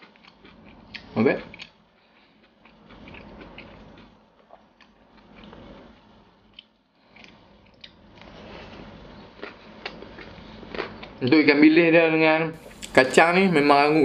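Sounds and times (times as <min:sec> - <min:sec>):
person chewing food: 0:00.0 - 0:11.3.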